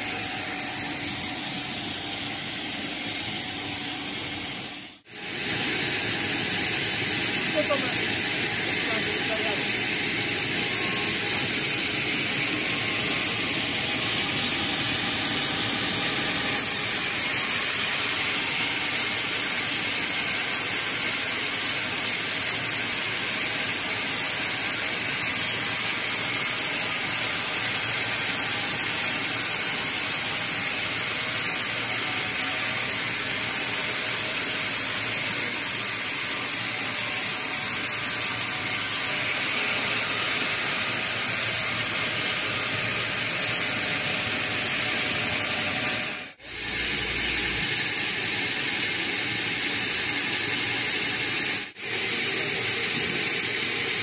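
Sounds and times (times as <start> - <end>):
band saw cutting through log: 0.0 - 54.0.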